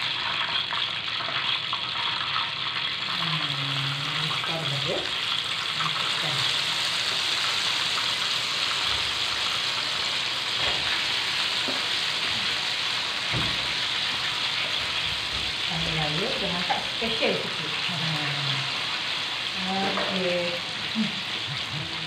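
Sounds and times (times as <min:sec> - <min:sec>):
chicken deep-frying in oil: 0:00.0 - 0:22.0.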